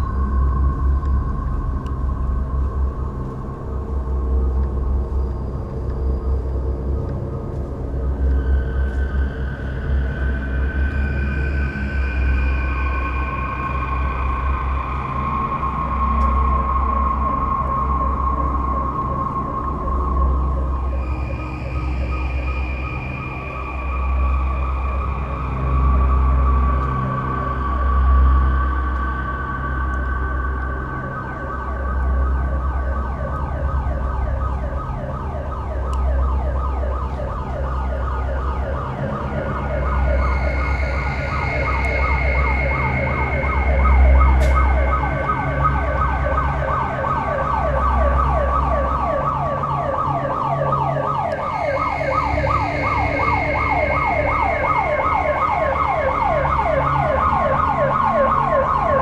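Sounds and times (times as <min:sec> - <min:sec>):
electronic warbling building alarm: 0:08.0 - 0:59.0.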